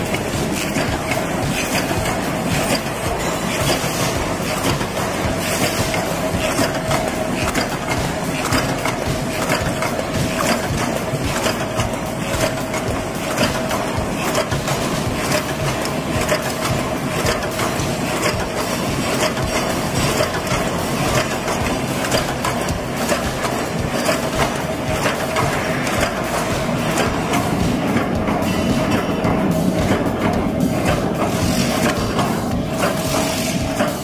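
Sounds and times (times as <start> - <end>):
machine clattering clicks and knocks: 0.0 - 34.0
machine whine: 0.0 - 34.0.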